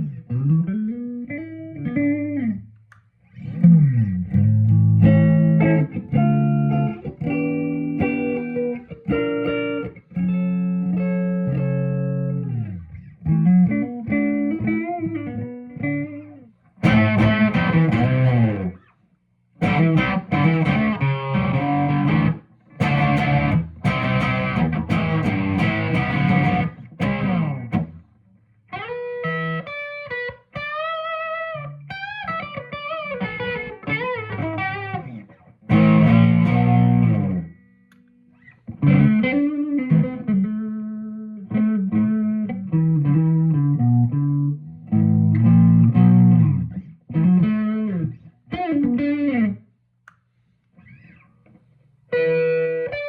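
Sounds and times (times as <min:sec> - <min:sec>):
electric guitar chords: 0:00.0 - 0:02.7, 0:03.3 - 0:18.9, 0:19.6 - 0:49.6, 0:52.1 - 0:53.0
electric guitar lead with string bends: 0:00.0 - 0:02.7, 0:03.3 - 0:18.9, 0:19.6 - 0:49.7, 0:52.1 - 0:53.0.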